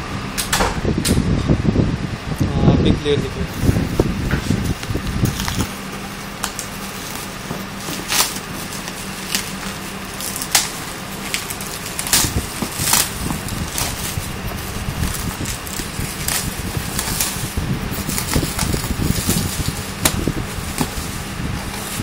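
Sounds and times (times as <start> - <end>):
plastic wrap crinkling: 3.5 - 22.0.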